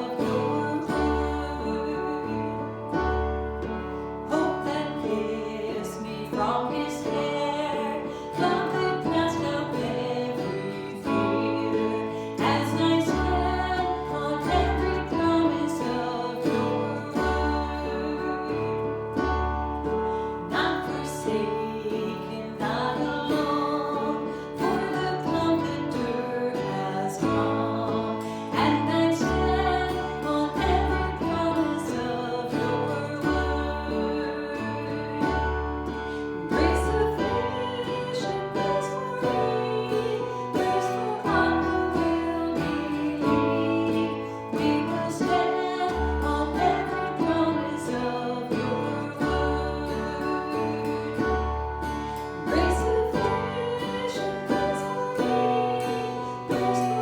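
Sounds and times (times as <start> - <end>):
acoustic guitar strumming: 0.0 - 57.0
person singing: 0.0 - 57.0.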